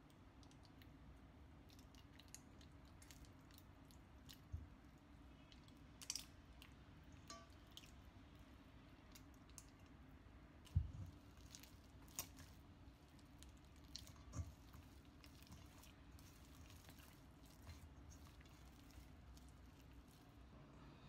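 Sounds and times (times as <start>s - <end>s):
dough squelching while kneaded: 0.0s - 20.8s.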